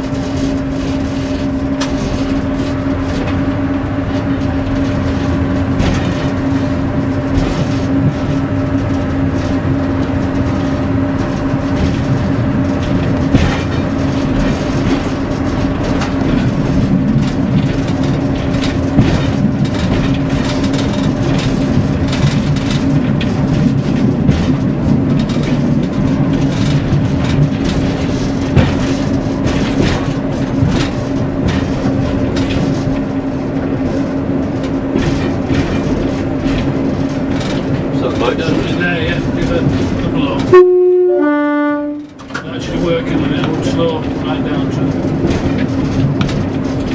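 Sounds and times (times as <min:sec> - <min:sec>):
knocks and rattles from cab: 0:00.0 - 0:40.6, 0:41.2 - 0:46.9
diesel railcar engine drone: 0:00.0 - 0:46.9
wheels on rails: 0:00.0 - 0:46.9.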